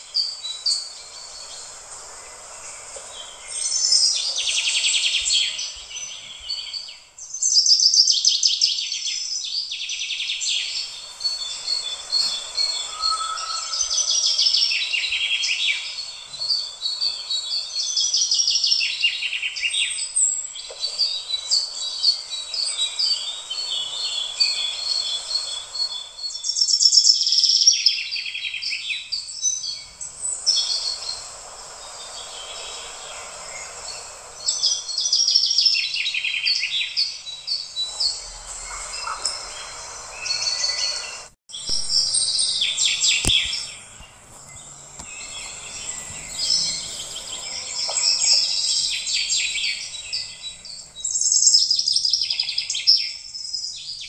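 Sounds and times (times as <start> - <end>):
birds chirping and trilling: 0.0 - 54.0
steady hiss: 0.0 - 54.0.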